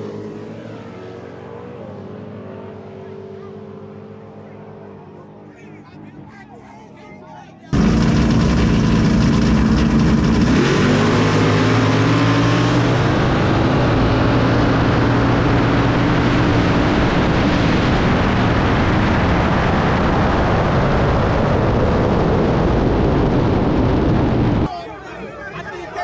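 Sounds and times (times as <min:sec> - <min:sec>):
drag racing engines at full throttle: 0:00.0 - 0:26.0.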